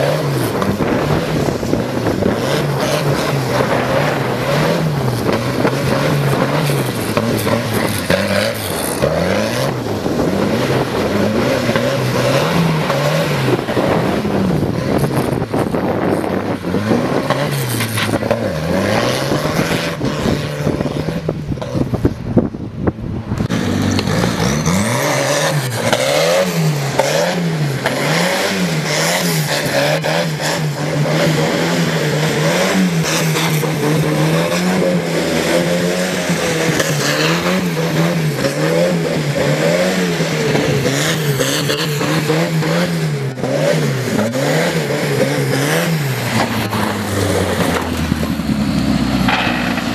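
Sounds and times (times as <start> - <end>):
tractor engine running hard: 0.0 - 49.9.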